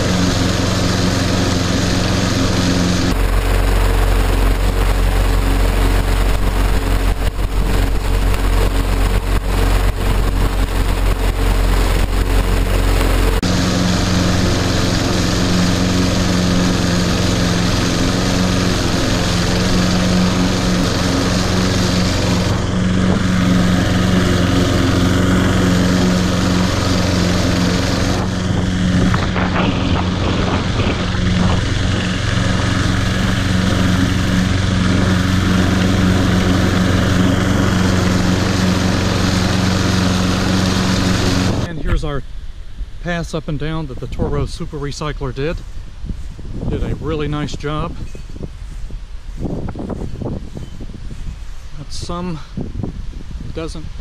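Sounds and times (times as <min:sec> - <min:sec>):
lawn mower cutting grass: 0:00.0 - 0:54.0.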